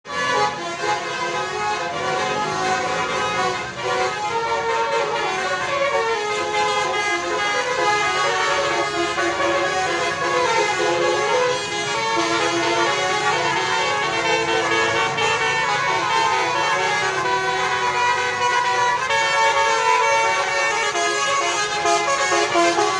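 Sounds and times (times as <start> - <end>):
multi-tone bus horn playing tune: 0.0 - 22.9.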